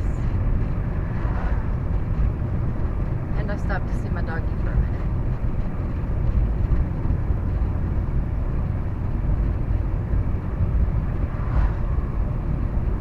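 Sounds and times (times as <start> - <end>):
vehicle driving rumble: 0.0 - 13.0.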